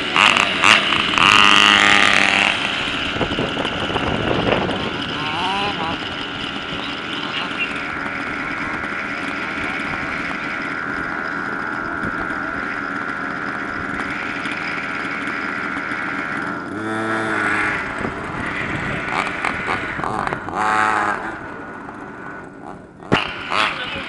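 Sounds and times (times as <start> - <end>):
small engine whining and revving: 0.0 - 24.0.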